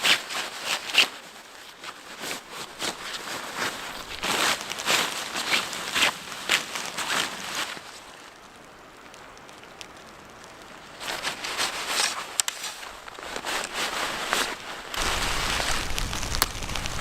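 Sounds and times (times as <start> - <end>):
footsteps crunching in snow: 0.0 - 8.0, 11.0 - 17.0
quiet hiss: 0.6 - 17.0.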